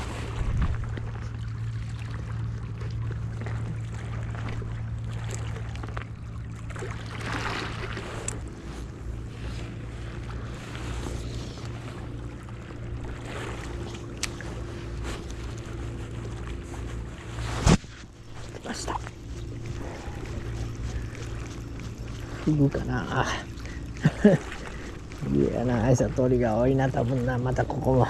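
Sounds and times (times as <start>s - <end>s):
low motor drone: 0.0s - 28.0s.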